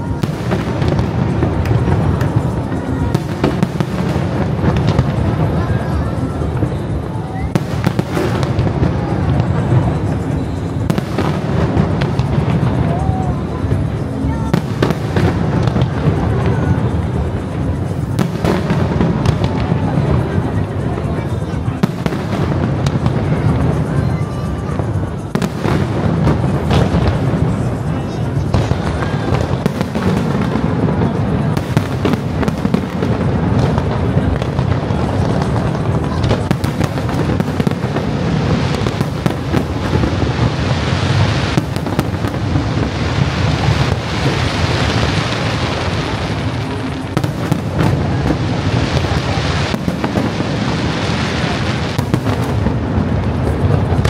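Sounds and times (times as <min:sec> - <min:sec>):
fireworks booming rumble: 0:00.0 - 0:54.0
fireworks sharp cracks: 0:00.0 - 0:54.0.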